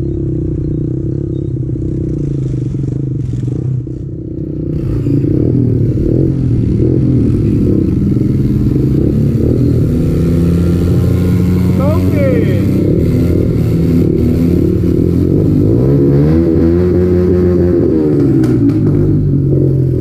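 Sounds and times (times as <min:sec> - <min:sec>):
motorbike engine running: 0:00.0 - 0:20.0
wind and road noise: 0:00.0 - 0:20.0.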